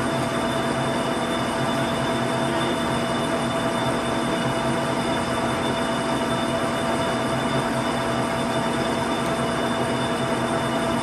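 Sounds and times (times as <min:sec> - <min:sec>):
lathe gearing whine: 0:00.0 - 0:11.0
lathe mechanical hum: 0:00.0 - 0:11.0.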